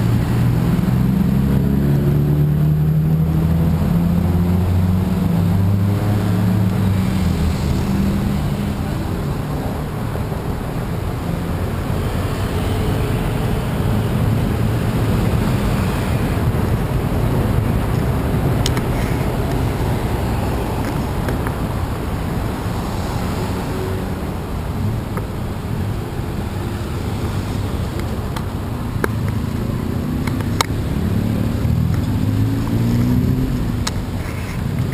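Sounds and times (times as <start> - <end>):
street traffic rumble: 0.0 - 34.9.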